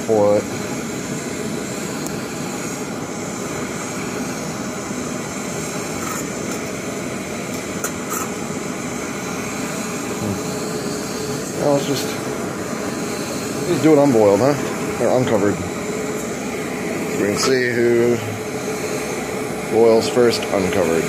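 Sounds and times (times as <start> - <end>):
camping stoves hissing: 0.0 - 21.0.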